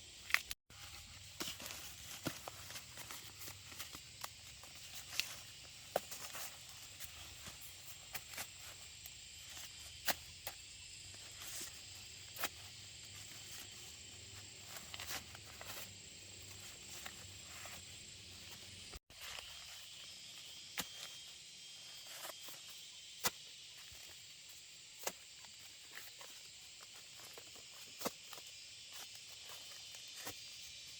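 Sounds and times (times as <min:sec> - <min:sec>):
insect chirring: 0:00.0 - 0:30.9.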